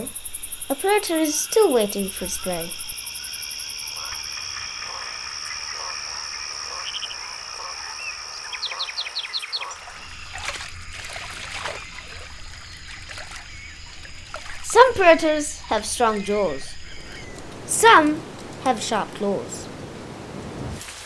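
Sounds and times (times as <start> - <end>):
frogs and insects trilling: 0.0 - 20.6.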